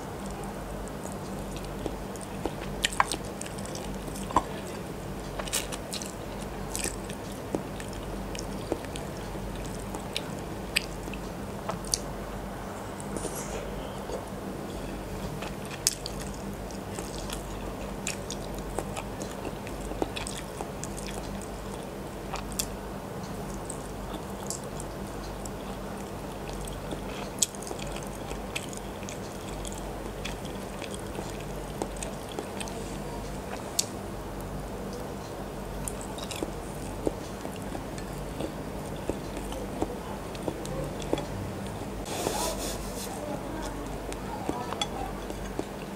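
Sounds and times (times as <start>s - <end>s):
steady low hum: 0.0s - 45.9s
wet chewing sounds: 0.2s - 12.1s, 15.2s - 42.4s, 43.4s - 45.9s.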